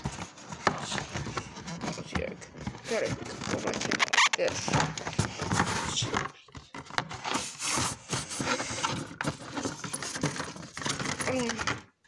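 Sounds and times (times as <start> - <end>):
board scraping: 0.0 - 6.4, 7.1 - 10.9
paper rustling: 0.0 - 11.5.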